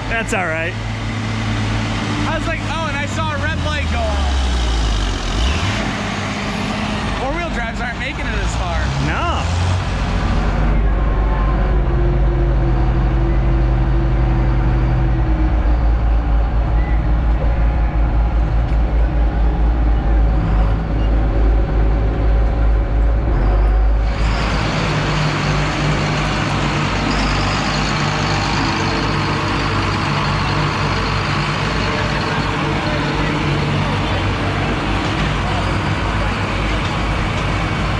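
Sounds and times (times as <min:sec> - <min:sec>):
tractor engine rumbling: 0:00.0 - 0:37.9.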